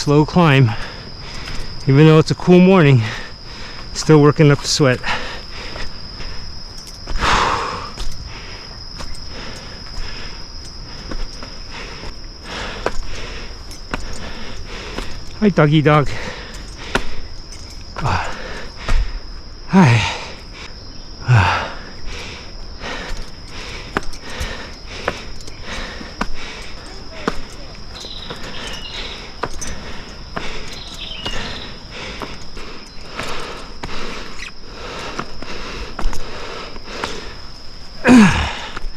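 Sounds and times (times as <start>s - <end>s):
insects calling: 0.0s - 38.9s
person breathing hard: 0.6s - 1.8s, 2.9s - 4.0s, 5.0s - 15.4s, 16.0s - 38.9s
footstep clicks: 0.6s - 19.5s, 22.0s - 38.9s.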